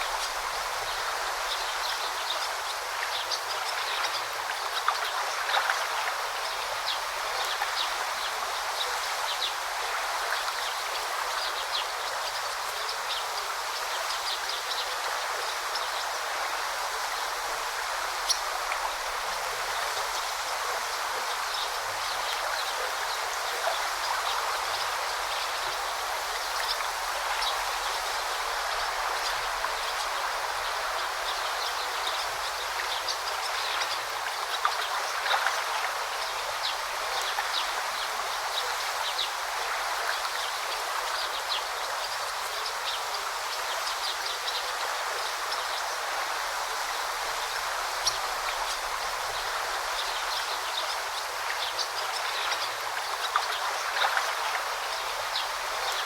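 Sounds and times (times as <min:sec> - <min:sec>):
river flowing and babbling: 0:00.0 - 0:56.0.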